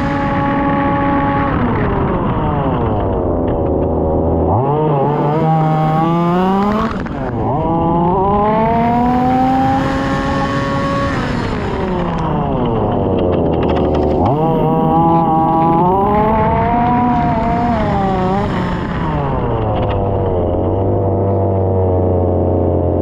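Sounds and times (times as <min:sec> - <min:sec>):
small petrol engine revving: 0:00.0 - 0:23.0.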